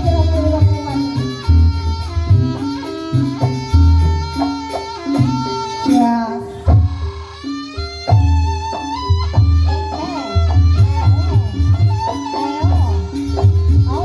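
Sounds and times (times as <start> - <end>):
heavy drum beats: 0.0 - 14.0
reedy wind instrument melody: 0.0 - 14.0.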